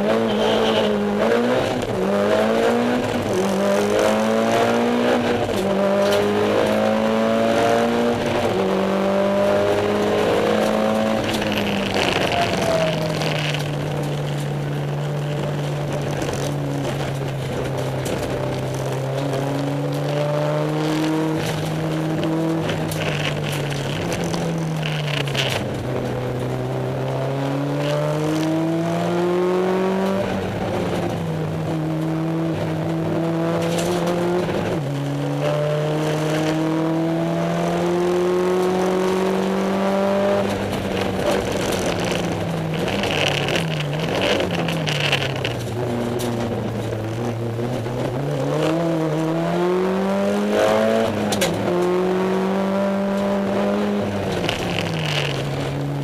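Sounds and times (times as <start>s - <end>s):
car engine revving at full throttle: 0.0s - 56.0s.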